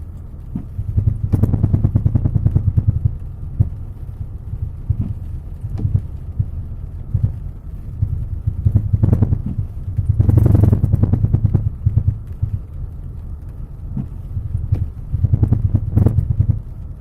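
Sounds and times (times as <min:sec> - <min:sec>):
car driving over bumps: 0:00.0 - 0:17.0
low road rumble: 0:00.0 - 0:17.0
suspension knocking: 0:00.5 - 0:12.8, 0:13.9 - 0:16.9.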